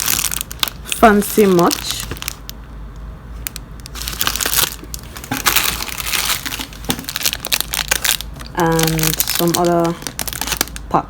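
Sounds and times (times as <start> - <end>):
packaging crinkling and rustling: 0.0 - 2.7, 3.4 - 11.0.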